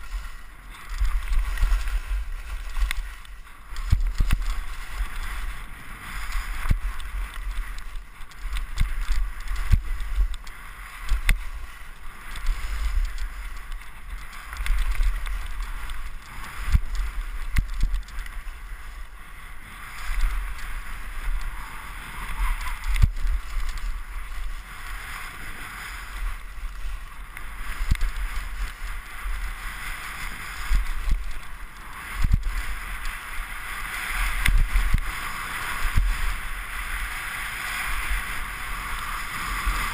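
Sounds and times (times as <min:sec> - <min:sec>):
skis scraping on snow: 0:00.0 - 0:39.9
wind buffeting microphone: 0:00.0 - 0:39.9.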